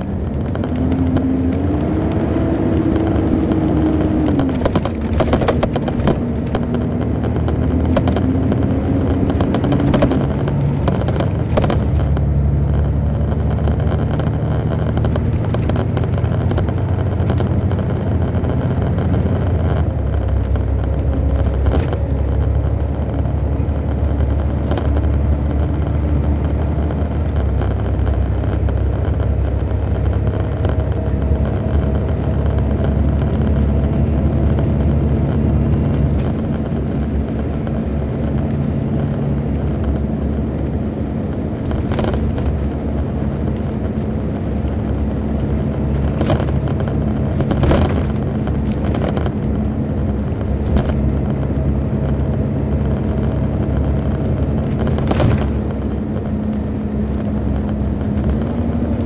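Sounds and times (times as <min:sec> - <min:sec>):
coach diesel engine running: 0:00.0 - 0:59.0.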